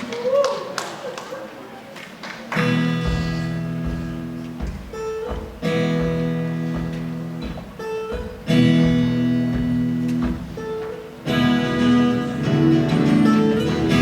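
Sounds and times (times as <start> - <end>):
acoustic guitar strumming chords: 2.6 - 14.0.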